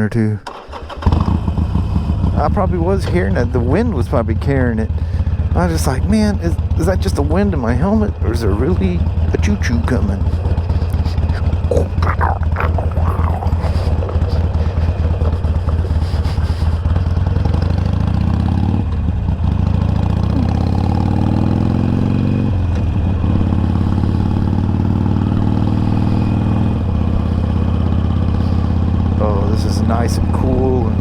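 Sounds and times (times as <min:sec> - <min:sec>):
motorcycle engine pulling away: 0:00.5 - 0:11.7, 0:13.9 - 0:31.0.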